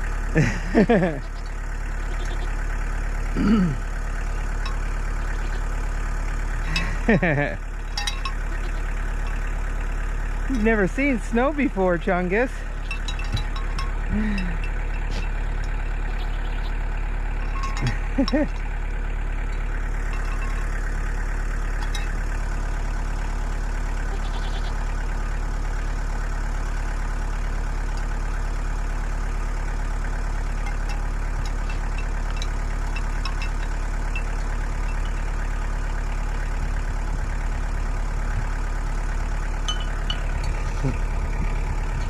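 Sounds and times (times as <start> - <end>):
tractor diesel engine idling: 0.0 - 42.0.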